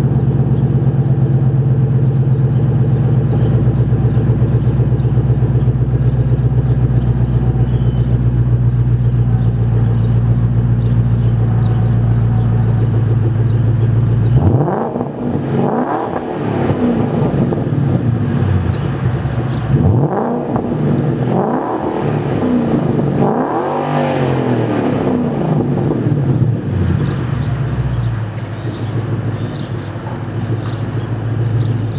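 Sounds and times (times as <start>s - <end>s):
car engine idling with deep rumble: 0.0s - 31.9s
engine revving: 0.0s - 31.9s.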